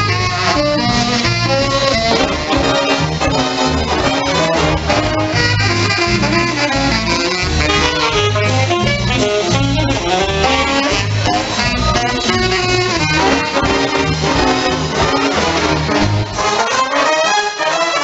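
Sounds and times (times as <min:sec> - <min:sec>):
big band playing jazz: 0:00.0 - 0:18.0.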